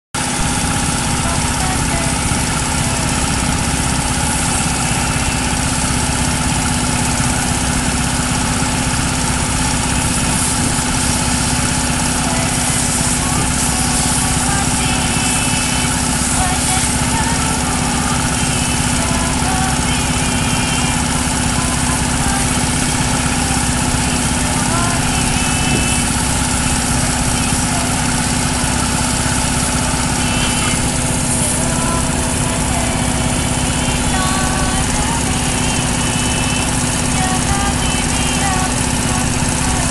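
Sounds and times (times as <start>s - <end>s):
engine running steadily: 0.2s - 39.9s.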